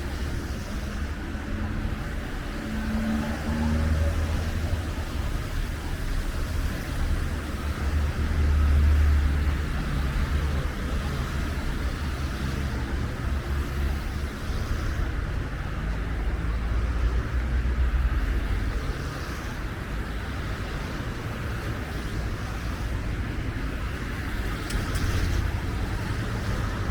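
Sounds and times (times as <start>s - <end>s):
engine and tyre rumble: 0.0s - 26.9s.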